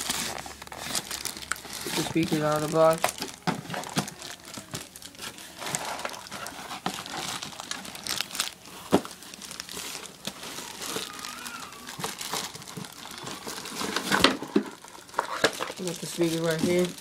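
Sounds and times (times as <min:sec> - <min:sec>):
plastic and cardboard crinkling: 0:00.0 - 0:17.0.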